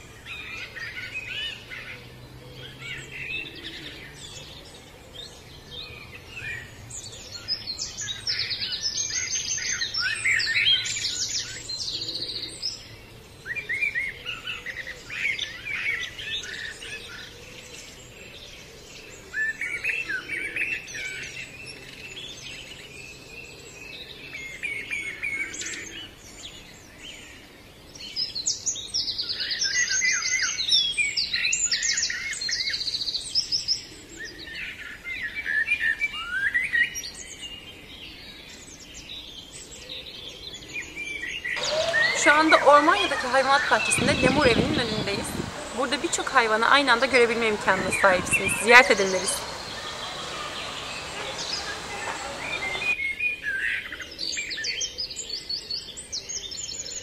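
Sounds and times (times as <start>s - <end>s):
songbirds singing and chirping: 0.0s - 57.0s.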